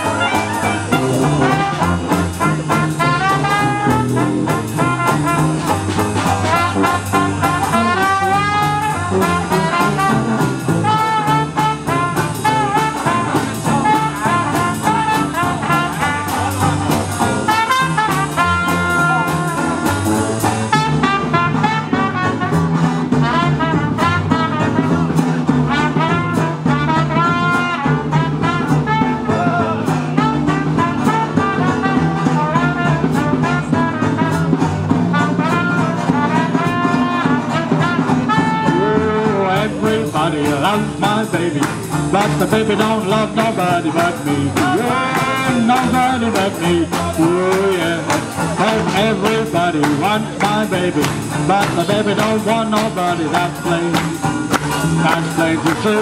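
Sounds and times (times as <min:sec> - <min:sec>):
jazz band playing: 0:00.0 - 0:56.0.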